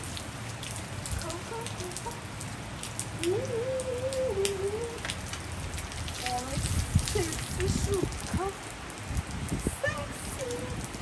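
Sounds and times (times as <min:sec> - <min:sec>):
rain on a tiled roof: 0:00.0 - 0:11.0.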